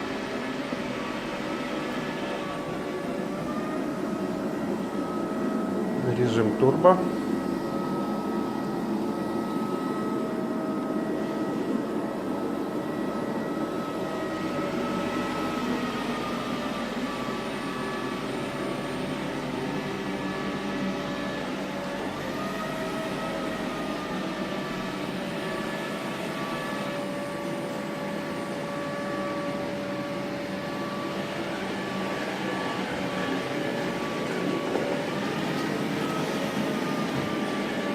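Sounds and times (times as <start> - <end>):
fan and brushes whirring: 0.0 - 37.9
robot vacuum suction motor whine: 0.0 - 37.9.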